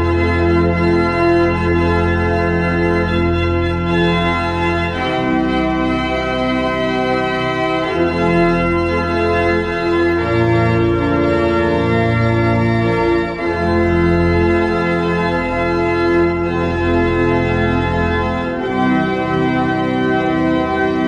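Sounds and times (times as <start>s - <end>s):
church organ chords: 0.0s - 21.0s.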